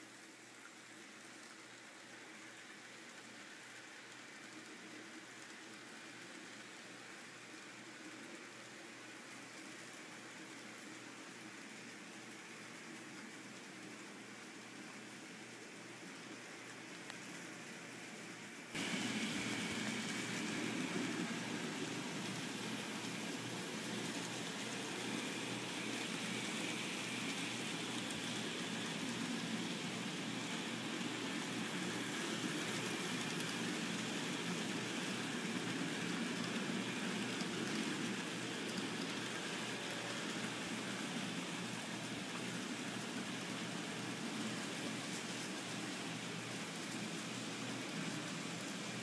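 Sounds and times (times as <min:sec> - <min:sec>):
model trains whirring on track: 0:00.0 - 0:49.0.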